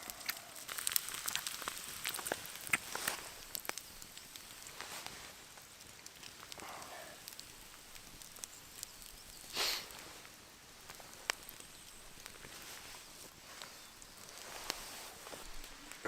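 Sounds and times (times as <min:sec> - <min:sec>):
faint steady hiss: 0:00.0 - 0:16.0
fire crackling and popping: 0:00.0 - 0:16.0.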